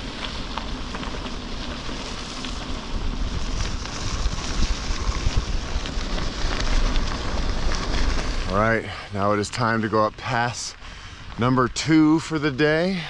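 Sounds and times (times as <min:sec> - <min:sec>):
wind rushing over microphone: 0:00.0 - 0:12.1
tyres rolling over gravel: 0:00.0 - 0:13.0.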